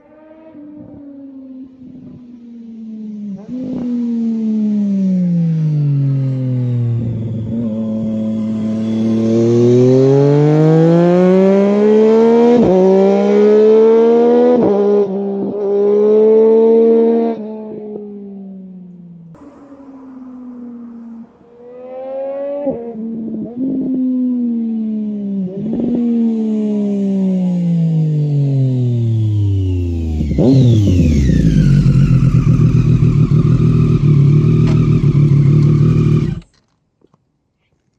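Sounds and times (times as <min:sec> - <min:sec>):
motorcycle engine accelerating hard: 0:00.0 - 0:36.5.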